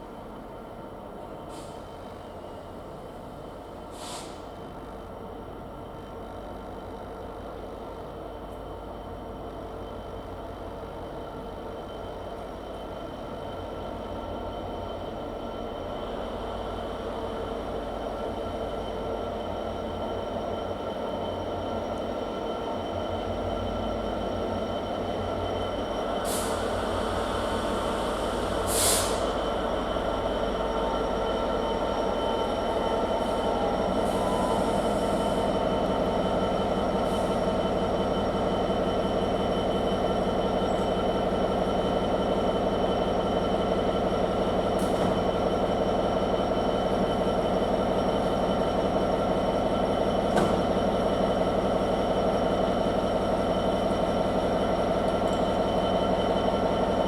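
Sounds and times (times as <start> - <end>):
diesel locomotive engine droning: 0.0 - 57.0.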